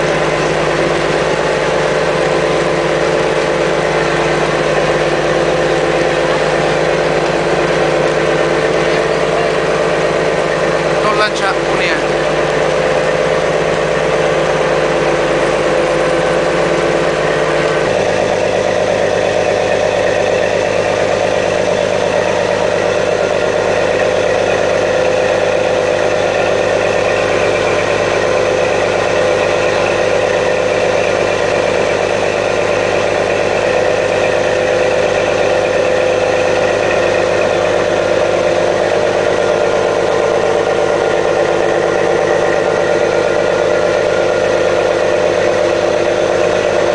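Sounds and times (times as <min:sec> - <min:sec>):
boat engines and machinery droning: 0:00.0 - 0:46.9.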